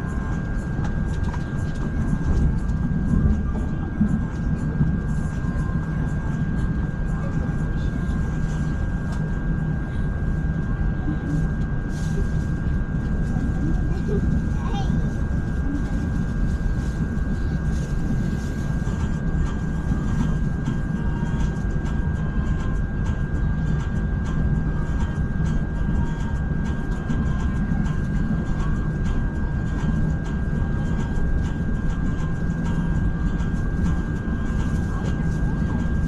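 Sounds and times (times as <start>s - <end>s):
electric train rumbling on track: 0.0s - 36.0s.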